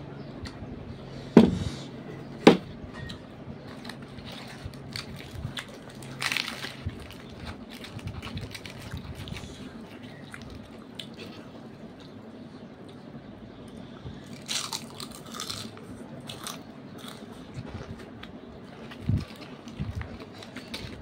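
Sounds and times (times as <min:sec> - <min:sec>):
chewing fried bread: 0:03.6 - 0:21.0.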